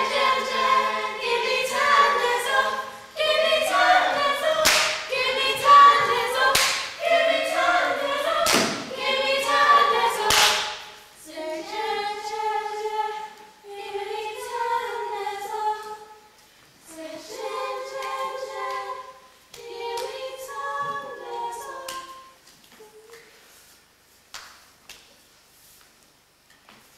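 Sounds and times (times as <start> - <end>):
group singing unaccompanied: 0.0 - 22.4.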